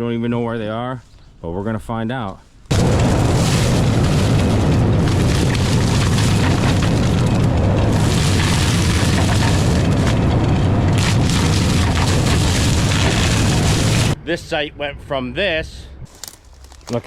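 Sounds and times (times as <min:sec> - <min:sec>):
diesel engine low rumble: 0:02.7 - 0:17.0.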